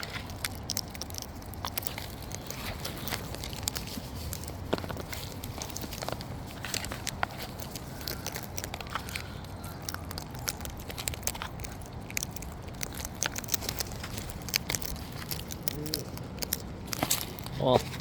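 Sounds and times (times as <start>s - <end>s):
low background hum: 0.0s - 18.0s
parrot beak crunching: 0.0s - 18.0s.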